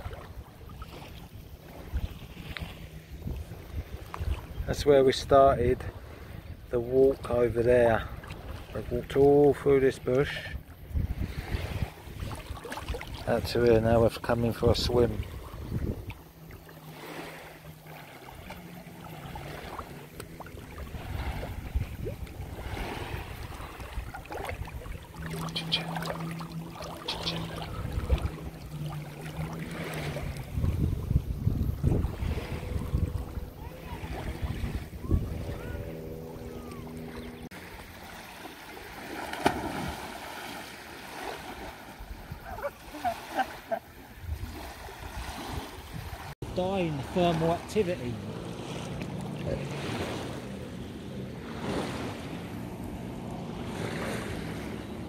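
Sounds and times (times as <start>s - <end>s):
waves lapping on pebbles: 0.0s - 35.0s, 37.0s - 55.0s
dog wading through water: 8.1s - 46.2s, 46.8s - 55.0s.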